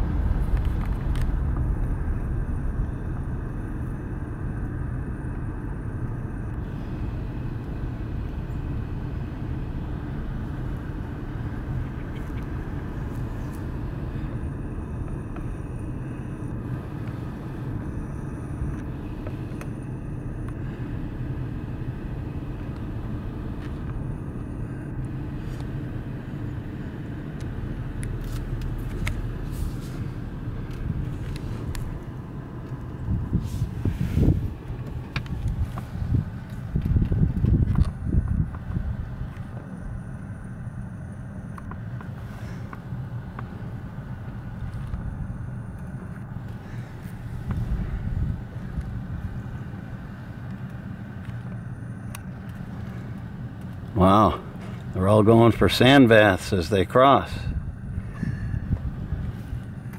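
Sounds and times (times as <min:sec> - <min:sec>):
car cabin noise: 0:00.0 - 0:59.9
car engine rumble: 0:00.0 - 0:59.9.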